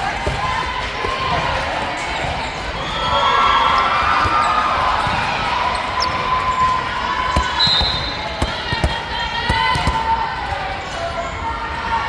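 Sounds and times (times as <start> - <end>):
volleyball thumps: 0.0 - 10.7
people calling and shouting: 0.0 - 12.0.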